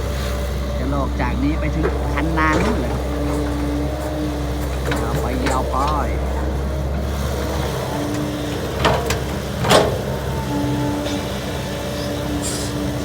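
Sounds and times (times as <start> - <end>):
diesel engine running: 0.0 - 13.0
hydraulic whine: 0.0 - 13.0.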